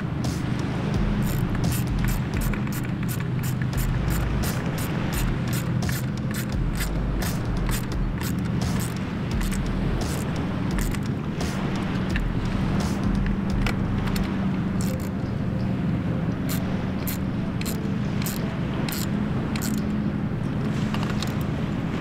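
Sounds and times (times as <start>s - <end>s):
wind and surf noise: 0.0s - 22.0s.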